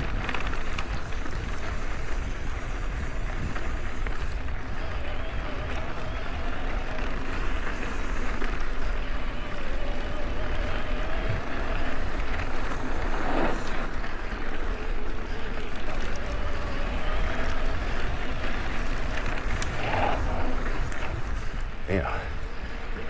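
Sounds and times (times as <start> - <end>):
bike tyres rolling on dirt: 0.0 - 23.0
wind rumble on microphone: 0.0 - 23.0.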